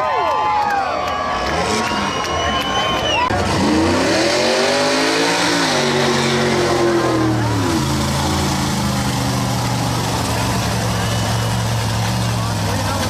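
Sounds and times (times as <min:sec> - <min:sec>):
vehicle engine revving: 0:01.4 - 0:13.0.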